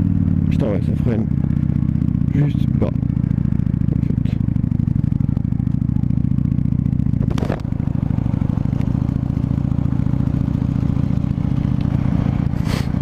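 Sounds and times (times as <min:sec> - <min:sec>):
motorcycle engine exhaust: 0:00.0 - 0:13.0.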